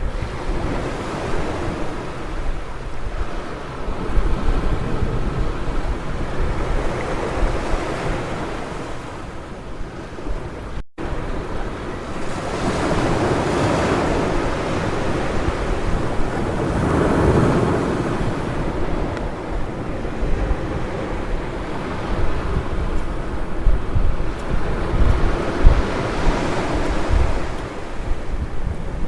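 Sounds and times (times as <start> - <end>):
ocean surf breaking: 0.0 - 29.0
wind rumbling on microphone: 0.0 - 29.0.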